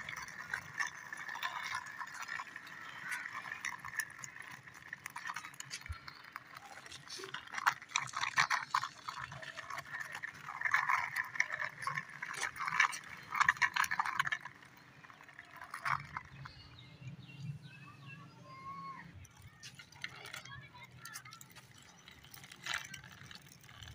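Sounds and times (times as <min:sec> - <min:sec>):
toy wheels rattling on cement: 0:00.0 - 0:23.9.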